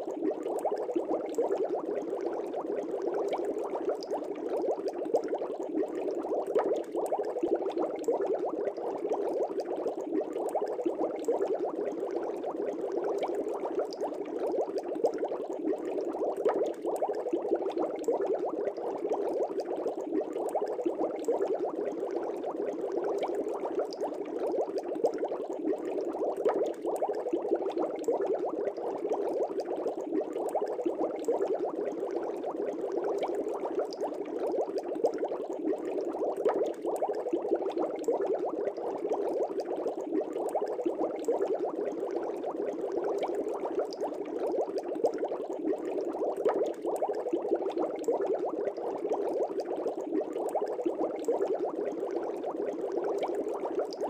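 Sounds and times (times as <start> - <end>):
aquarium air bubbles: 0.0 - 54.0.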